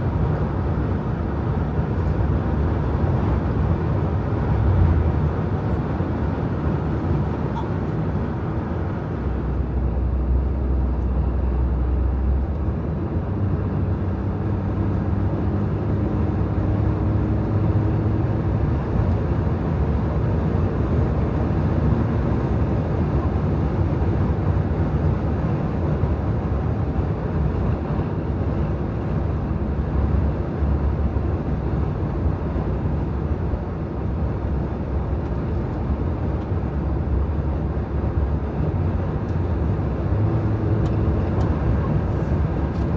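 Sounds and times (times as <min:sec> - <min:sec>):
low engine hum: 0:00.0 - 0:42.9.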